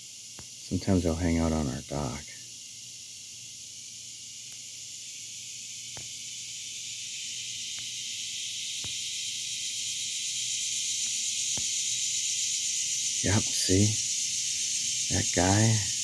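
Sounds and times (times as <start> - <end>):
insect chorus hissing: 0.0 - 16.0.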